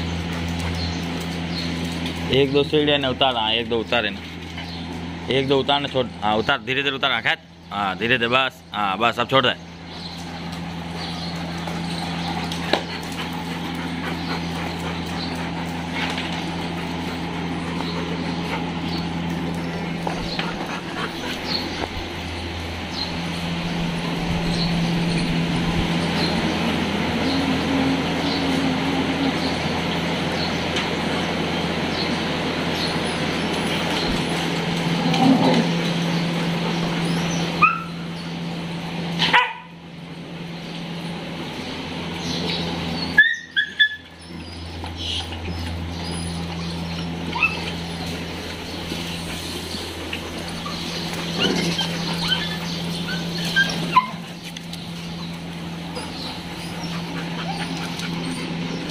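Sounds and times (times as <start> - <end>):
steady low hum: 0.0 - 58.9
dogs barking and yipping: 9.7 - 58.9.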